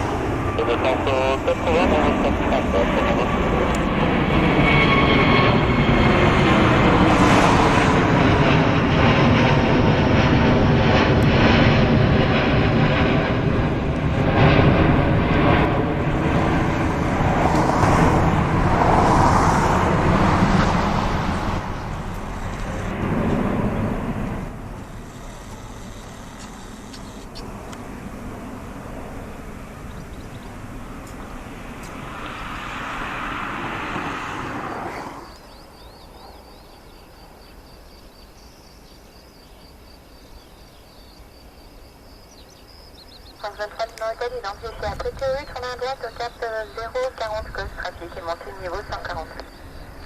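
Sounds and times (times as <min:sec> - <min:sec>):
airliner jet engines passing: 0:00.0 - 0:50.0.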